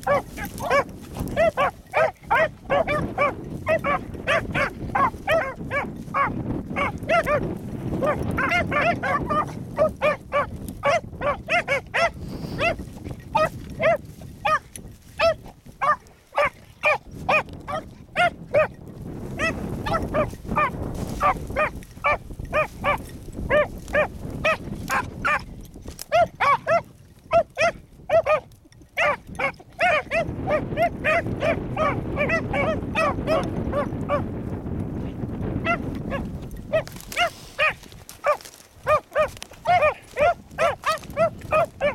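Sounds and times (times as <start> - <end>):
dogs baying with high yips: 0.0 - 34.3, 35.6 - 41.9
wind rumble on microphone: 0.0 - 41.9.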